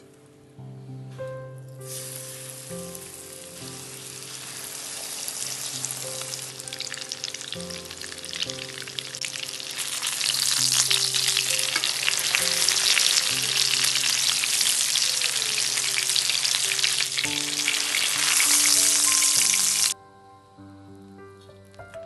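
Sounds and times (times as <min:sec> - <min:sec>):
chicken sizzling in oil: 0:01.9 - 0:20.0.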